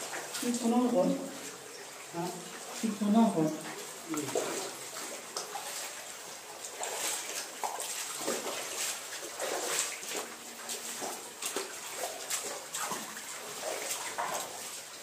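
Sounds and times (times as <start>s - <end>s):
water splashing in a cave: 0.0s - 15.0s.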